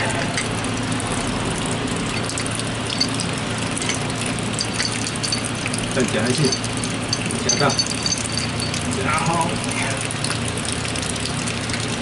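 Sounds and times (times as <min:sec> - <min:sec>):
water running into plastic bucket: 0:00.0 - 0:12.0.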